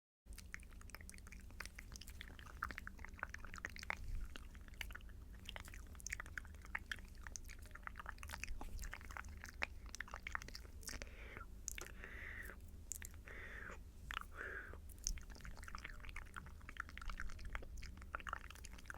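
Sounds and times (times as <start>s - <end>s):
steady low hum: 0.3s - 18.9s.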